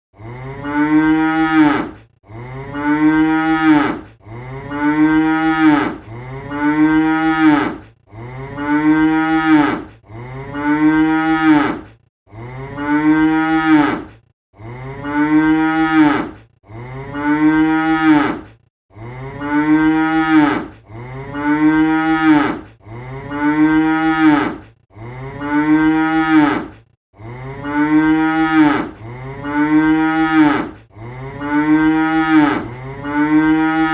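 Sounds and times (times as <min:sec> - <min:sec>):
cow mooing: 0:00.2 - 0:33.9.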